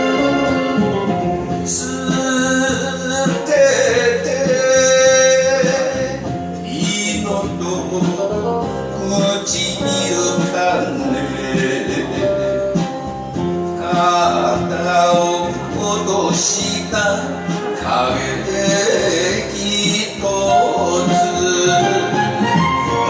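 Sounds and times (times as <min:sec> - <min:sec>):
instrumental ballad music: 0:00.0 - 0:23.0
plucked guitar: 0:00.0 - 0:23.0.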